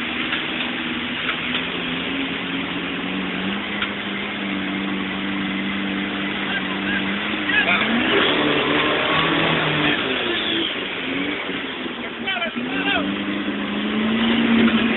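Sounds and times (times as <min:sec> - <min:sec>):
off-road vehicle engine running: 0:00.0 - 0:14.9.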